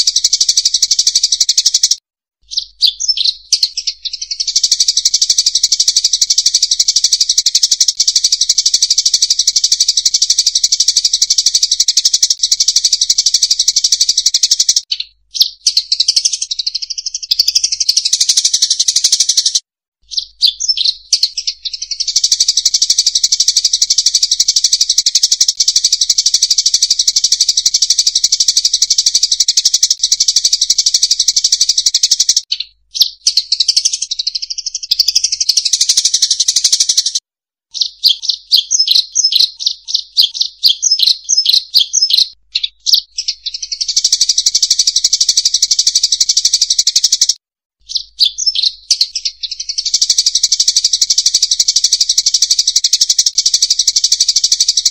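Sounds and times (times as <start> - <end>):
munias chattering calls: 0.0 - 37.2, 37.8 - 54.9.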